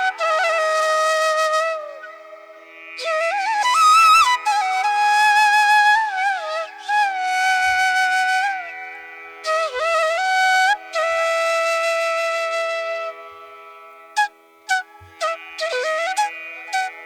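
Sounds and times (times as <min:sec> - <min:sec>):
slow flute melody: 0:00.0 - 0:08.7, 0:09.4 - 0:17.0.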